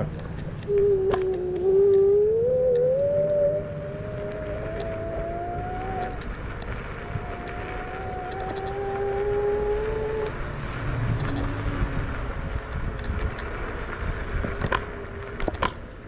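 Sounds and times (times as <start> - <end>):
tyres on rough asphalt: 0.0 - 2.1, 2.7 - 16.0
wind on microphone: 0.0 - 15.8
electric scooter motor whine: 0.6 - 15.9.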